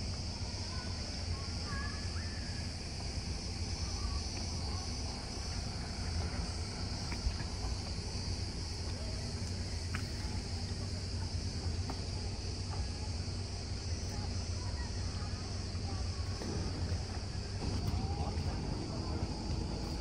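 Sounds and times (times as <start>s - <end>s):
insects chorus: 0.0s - 20.0s
low hum: 2.9s - 20.0s.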